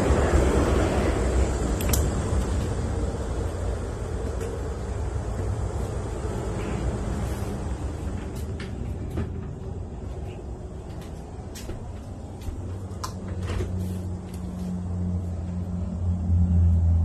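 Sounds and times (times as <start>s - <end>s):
refrigerator hum: 0.0s - 17.0s.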